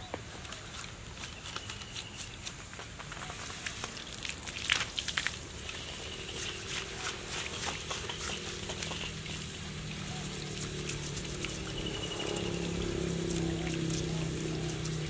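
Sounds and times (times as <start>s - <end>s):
hose water spraying and splashing: 0.4s - 15.0s.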